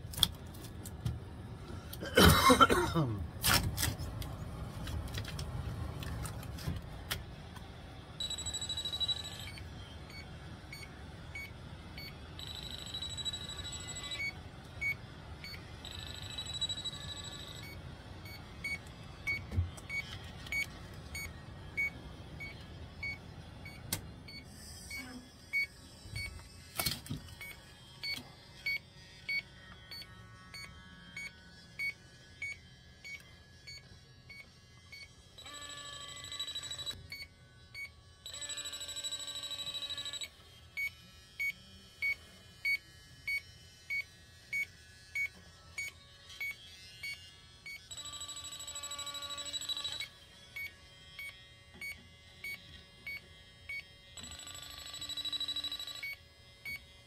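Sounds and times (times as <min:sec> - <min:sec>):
rapid continuous alarm: 0:07.7 - 0:57.0
leak detector beeping: 0:08.2 - 0:26.4, 0:27.4 - 0:44.0, 0:44.6 - 0:56.9.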